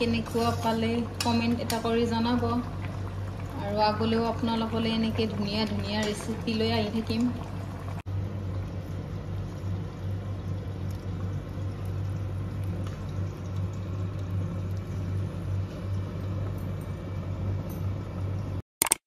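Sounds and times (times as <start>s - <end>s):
low machine hum: 0.0s - 18.6s.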